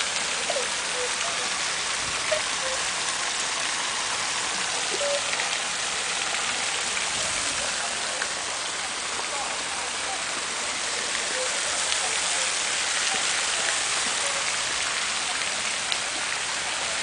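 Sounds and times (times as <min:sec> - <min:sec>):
falling splashing water: 0:00.0 - 0:17.0.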